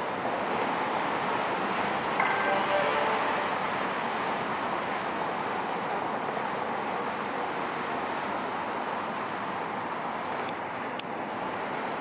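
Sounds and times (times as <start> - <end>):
moving vehicle running noise: 0.0 - 12.0.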